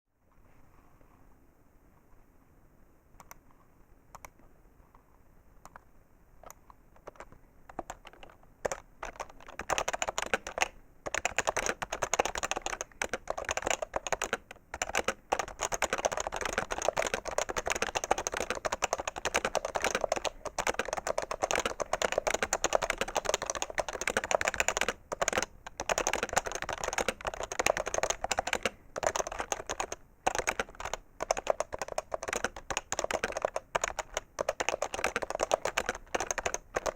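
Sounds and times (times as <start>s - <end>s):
keyboard typing: 6.4s - 36.9s.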